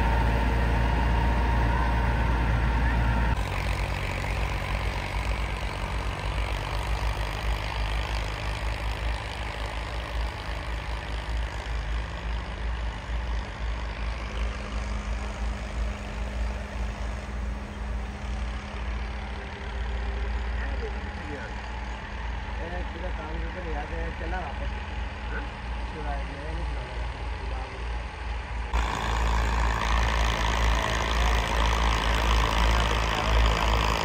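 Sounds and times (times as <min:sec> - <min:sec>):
diesel tractor engines running: 0:00.0 - 0:34.0.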